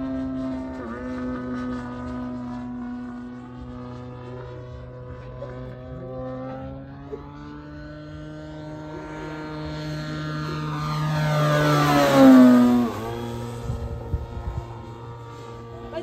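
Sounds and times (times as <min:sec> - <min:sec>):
model plane engine droning: 0:00.0 - 0:16.0.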